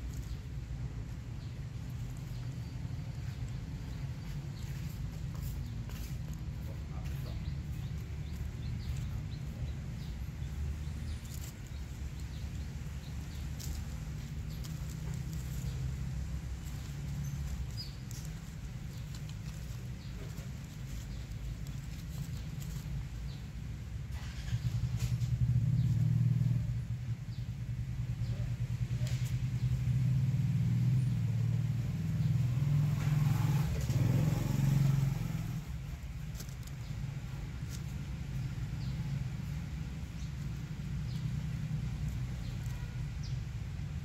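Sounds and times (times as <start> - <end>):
engine humming: 0.0 - 44.0.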